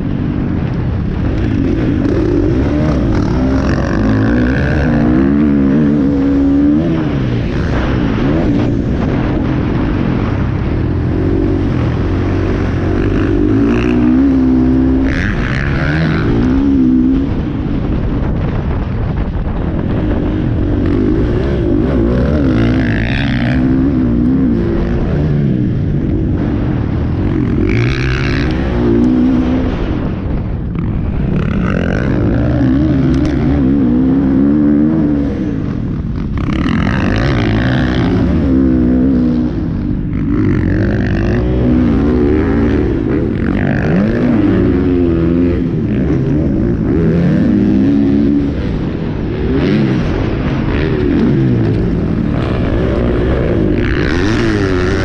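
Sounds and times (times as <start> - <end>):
dirt bike engine revving: 0.0 - 55.0
steady rush of noise: 0.0 - 55.0.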